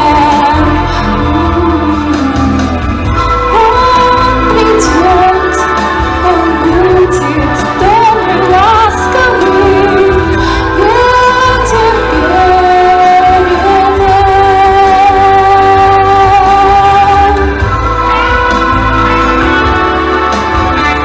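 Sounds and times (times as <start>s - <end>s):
steady bass accompaniment: 0.0s - 21.0s
woman singing pop song: 0.0s - 21.0s.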